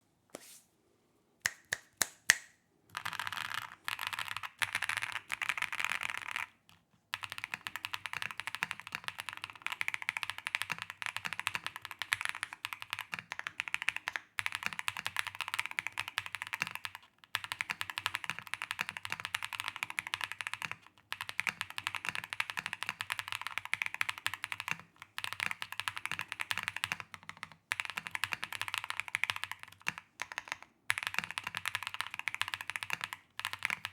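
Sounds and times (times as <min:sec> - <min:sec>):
typing on mechanical keyboard: 0:02.9 - 0:33.9.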